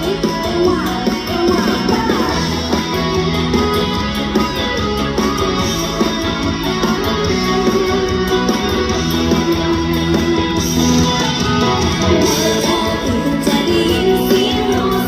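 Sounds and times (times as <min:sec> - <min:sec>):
guitar: 0:00.0 - 0:15.0
live band instrumental music: 0:00.0 - 0:15.0.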